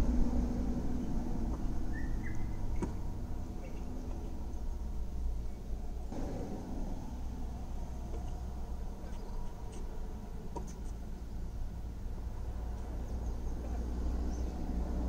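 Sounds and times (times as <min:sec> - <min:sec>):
car idling: 0:00.0 - 0:15.0.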